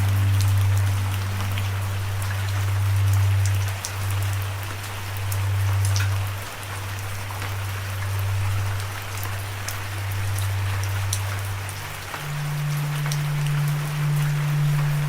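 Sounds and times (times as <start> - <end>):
low sustained drone: 0.0 - 15.0
rain hiss: 0.0 - 15.0
raindrop ticks: 0.0 - 15.0.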